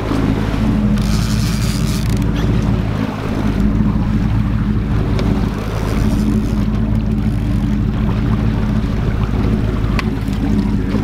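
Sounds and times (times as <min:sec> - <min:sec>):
boat engine droning: 0:00.0 - 0:11.0
wind and water noise: 0:00.0 - 0:11.0.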